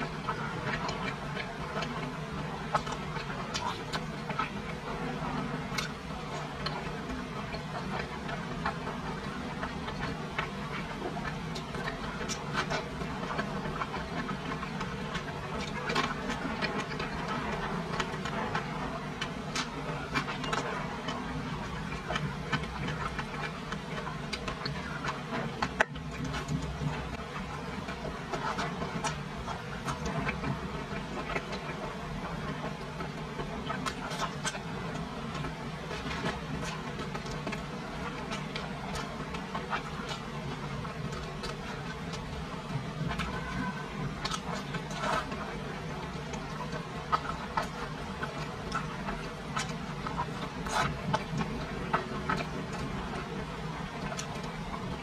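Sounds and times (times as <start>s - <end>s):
wet chewing and mouth sounds: 0.0s - 55.0s.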